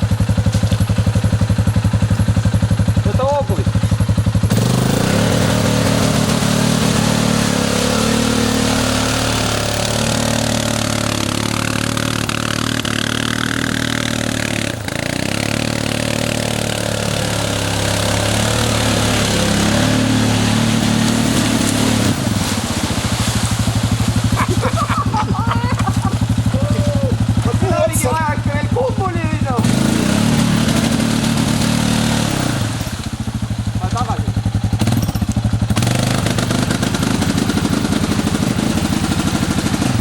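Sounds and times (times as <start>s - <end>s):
atv engine revving: 0.0s - 40.0s.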